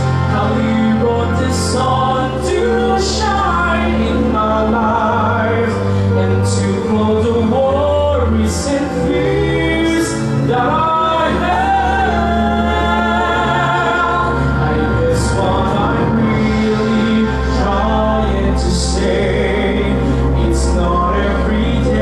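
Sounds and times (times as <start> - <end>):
men singing together: 0.0 - 22.0
sustained low accompaniment notes: 0.0 - 22.0.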